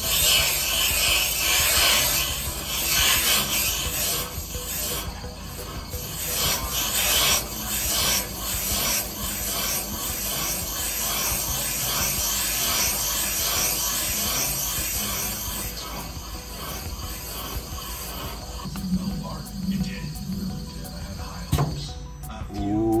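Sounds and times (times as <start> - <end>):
metal cutter rasping scrape: 0.0 - 21.7.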